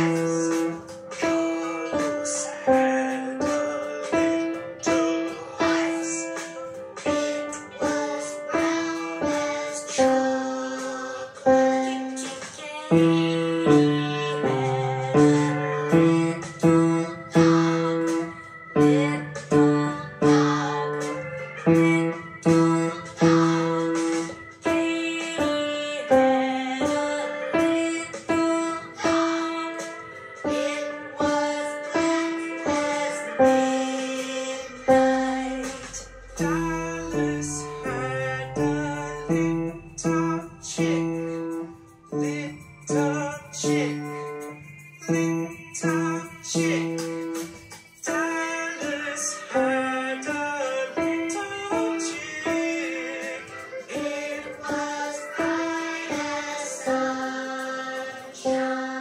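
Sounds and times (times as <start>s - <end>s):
piano melody: 0.0s - 59.0s.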